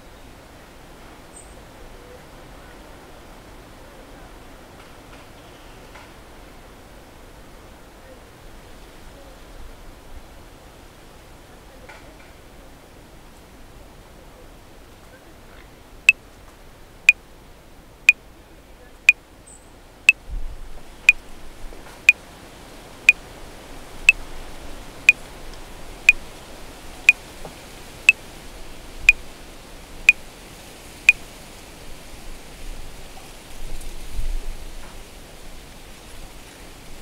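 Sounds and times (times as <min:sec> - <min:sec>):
low background hiss: 0:00.0 - 0:37.0.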